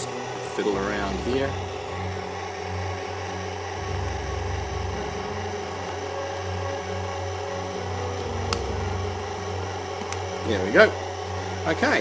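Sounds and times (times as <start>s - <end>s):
low pulsing mechanical drone: 0.0s - 12.0s.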